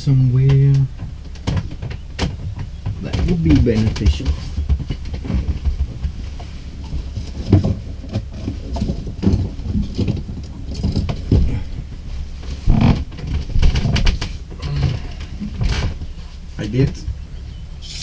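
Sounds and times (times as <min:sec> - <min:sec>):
objects knocking and clattering: 0:00.4 - 0:16.1.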